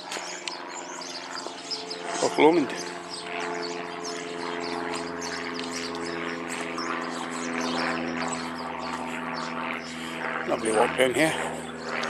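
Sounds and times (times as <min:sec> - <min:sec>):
propeller aircraft flying by: 0:00.0 - 0:12.0.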